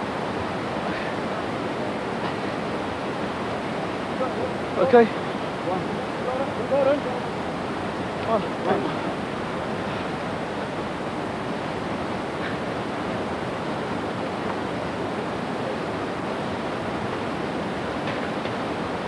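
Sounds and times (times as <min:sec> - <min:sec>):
river rushing through rapids: 0:00.0 - 0:19.0.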